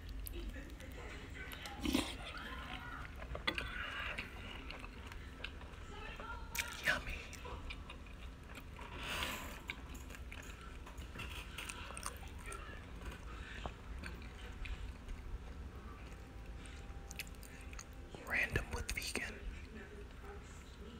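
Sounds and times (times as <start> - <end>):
person chewing crunchy cereal: 0.0 - 5.8, 6.5 - 18.0.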